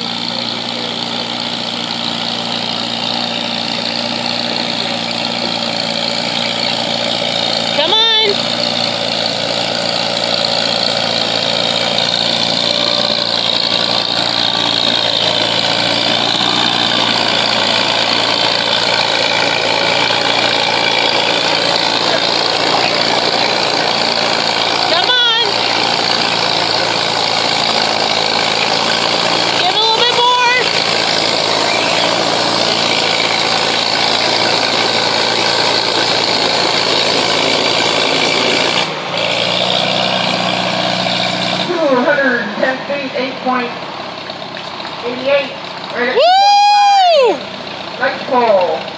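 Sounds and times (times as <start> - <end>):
tractor engine under load: 0.0 - 48.9.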